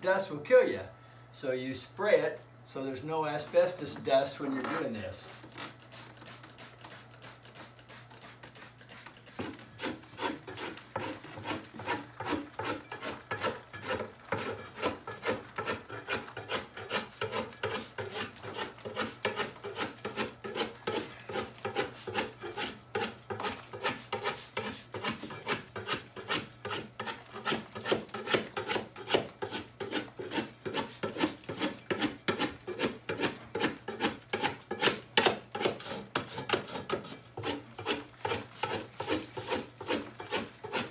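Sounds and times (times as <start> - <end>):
scraper scraping ceiling: 4.8 - 40.9.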